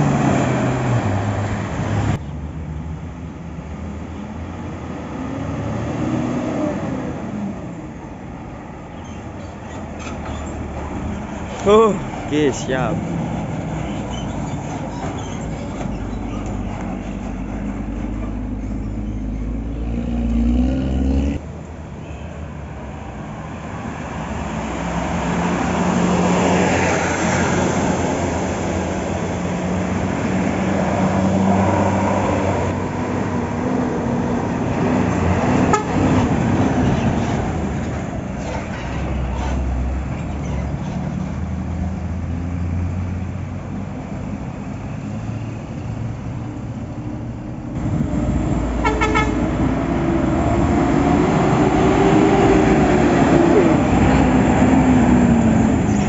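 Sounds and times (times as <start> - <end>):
buses driving past: 0.0 - 56.0
road noise: 0.0 - 56.0.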